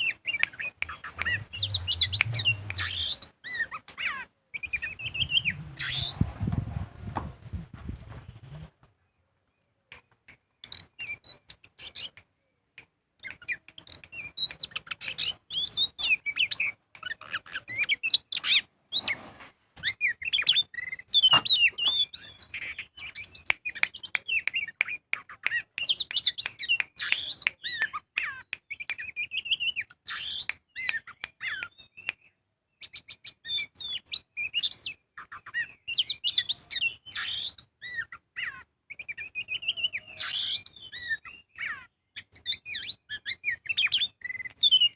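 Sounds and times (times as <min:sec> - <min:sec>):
songbird whistling and chattering: 0:00.0 - 0:06.2, 0:10.6 - 0:12.2, 0:13.2 - 0:19.1, 0:19.8 - 0:44.9.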